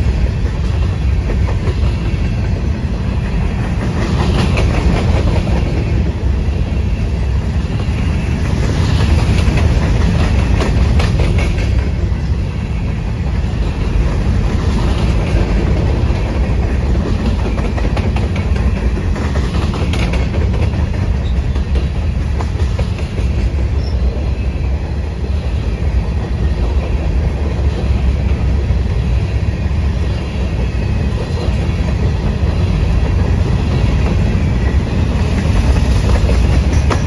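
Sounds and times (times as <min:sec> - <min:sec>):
wheels clicking over rail joints: 0:00.0 - 0:24.8, 0:30.3 - 0:37.0
freight train rumbling past: 0:00.0 - 0:37.0.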